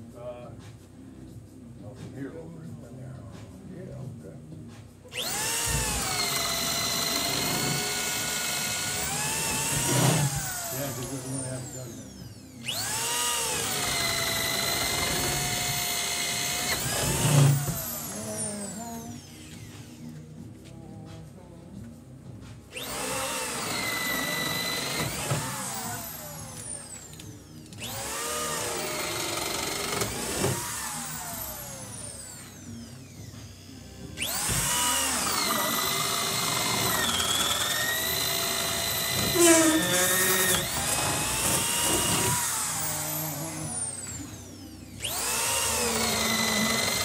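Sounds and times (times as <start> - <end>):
power drill boring through wood: 5.1 - 20.2, 22.7 - 47.0.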